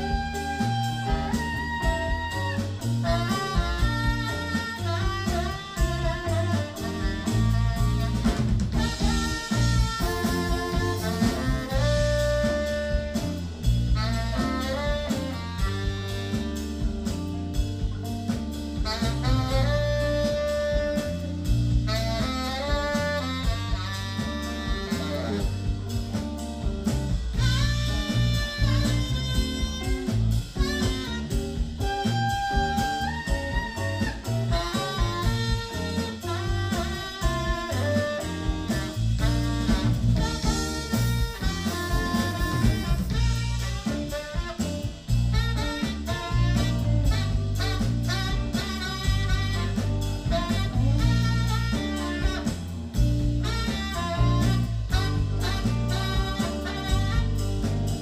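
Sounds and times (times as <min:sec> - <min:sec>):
drum kit: 0:00.0 - 0:58.0
electric bass: 0:00.0 - 0:58.0
electric guitar: 0:00.0 - 0:58.0
saxophone melody: 0:00.0 - 0:58.0.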